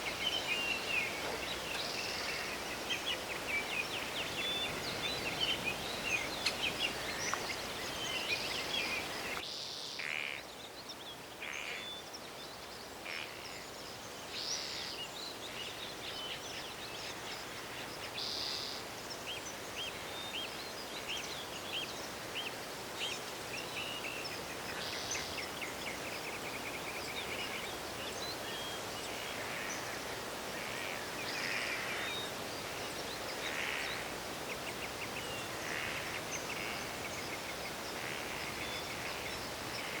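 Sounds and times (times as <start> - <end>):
background hiss: 0.0 - 40.0
birds chirping and trilling: 0.0 - 40.0.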